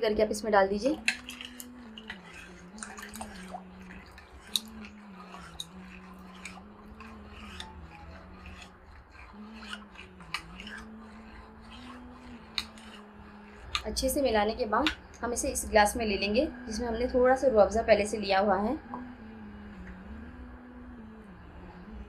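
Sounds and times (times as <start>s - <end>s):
spoon scraping metal bowl: 0.0s - 20.5s
spoon stirring thick custard: 0.0s - 22.0s.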